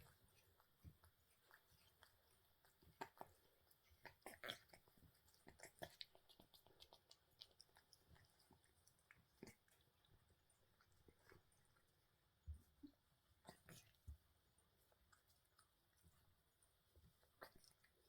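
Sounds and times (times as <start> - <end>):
cat licking fur: 0.0 - 18.0.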